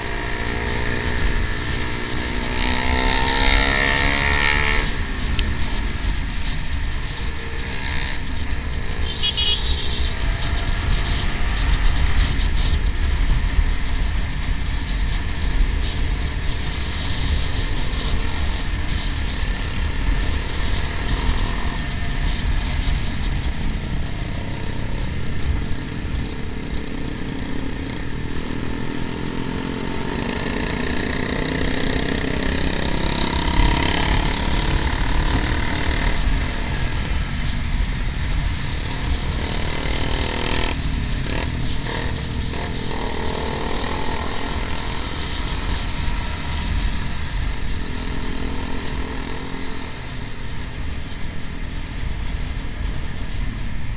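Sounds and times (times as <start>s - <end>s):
motorcycle engine running: 0.0s - 53.9s
other motorcycles passing: 0.0s - 53.9s
wind rumble on microphone: 0.0s - 53.9s.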